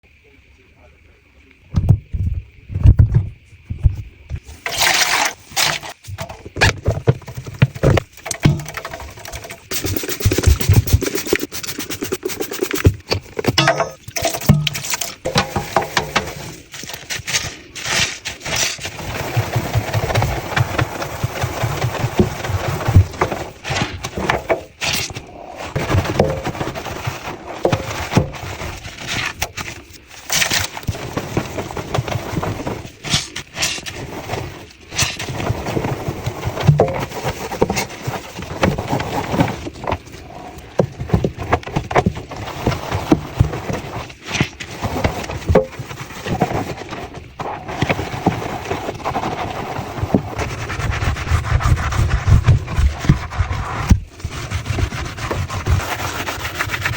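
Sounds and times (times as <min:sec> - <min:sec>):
scrubbing inside washing machine: 0:01.7 - 0:56.9.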